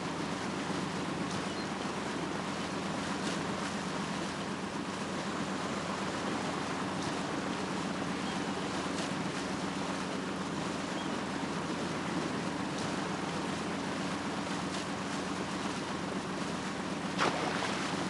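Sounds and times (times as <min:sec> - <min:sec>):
low even hum: 0:00.0 - 0:18.0
sea waves washing: 0:00.0 - 0:18.0.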